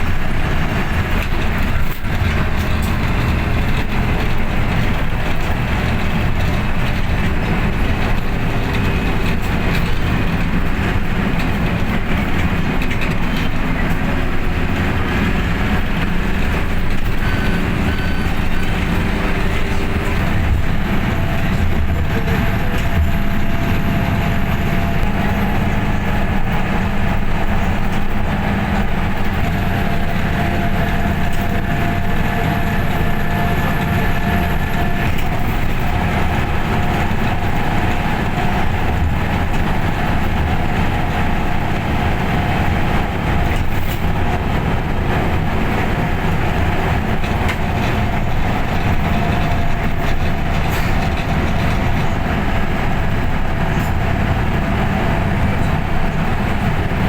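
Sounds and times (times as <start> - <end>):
road noise: 0.0 - 57.0
truck engine rumble: 0.0 - 57.0.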